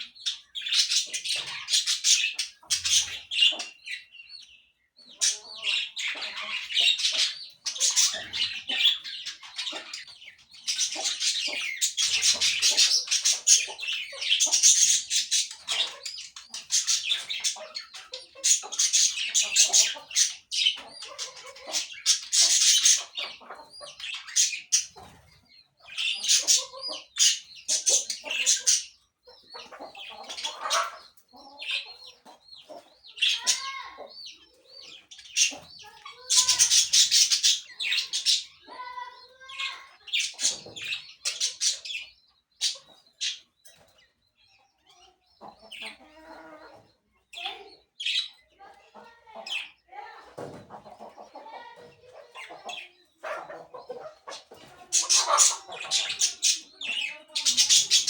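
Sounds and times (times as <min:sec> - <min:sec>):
parakeets screeching and chattering: 0:00.0 - 0:58.0.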